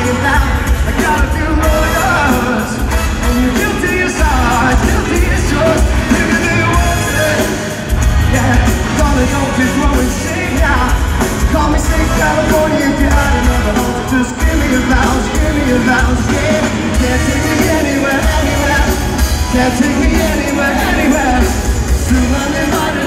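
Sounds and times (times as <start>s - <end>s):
live pop-rock band playing: 0.0s - 23.0s
person singing into a microphone: 0.0s - 23.0s.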